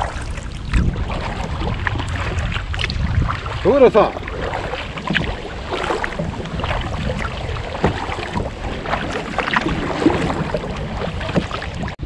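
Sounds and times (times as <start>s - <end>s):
paddle splashing water: 0.0s - 12.0s
wind rumble on microphone: 0.0s - 12.0s.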